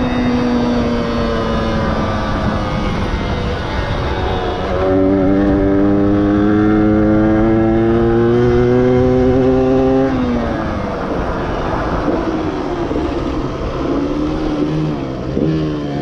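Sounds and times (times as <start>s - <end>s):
motorcycle engine under throttle: 0.0s - 16.0s
wind and road noise: 0.0s - 16.0s.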